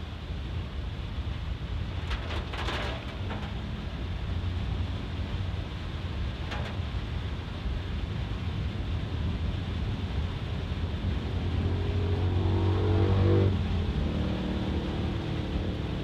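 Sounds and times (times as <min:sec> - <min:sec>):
engine and road drone: 0:00.0 - 0:16.0
rain hissing: 0:00.6 - 0:16.0.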